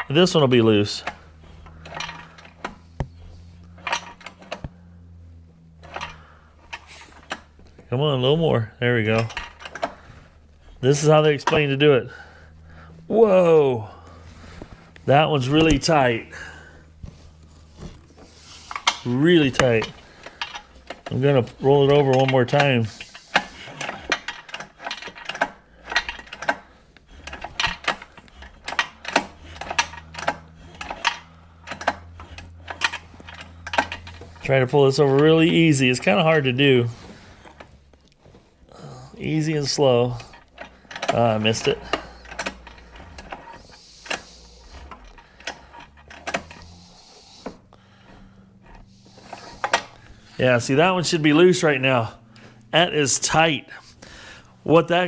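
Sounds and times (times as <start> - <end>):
faint low hum: 0.0 - 55.0
metallic clicks of engine turning: 0.0 - 55.0.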